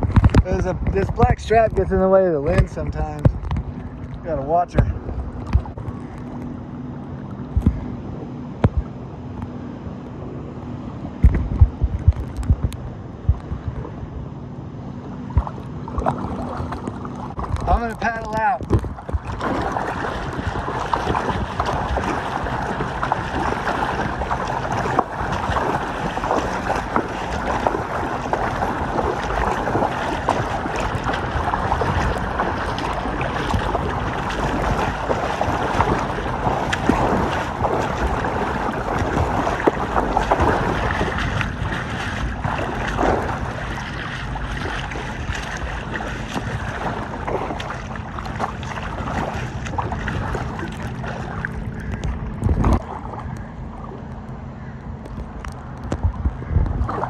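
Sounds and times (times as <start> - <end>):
water splashing around paddle: 0.0 - 9.5, 11.2 - 14.1, 14.8 - 57.0
wind rumbling on microphone: 0.0 - 57.0.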